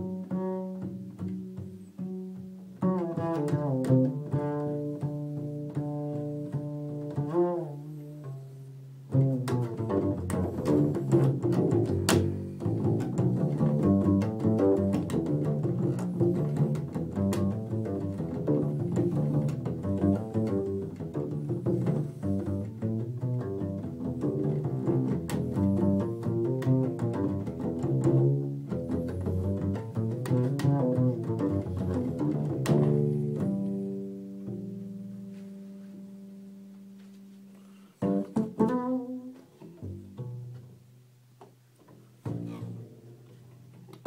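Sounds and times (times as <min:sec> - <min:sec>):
double bass plucked notes: 0:00.0 - 0:44.0.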